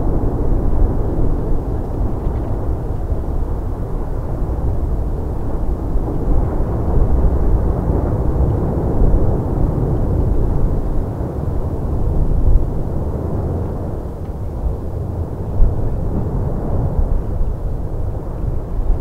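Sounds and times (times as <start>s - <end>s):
lava fountain deep rumble: 0.0s - 19.0s.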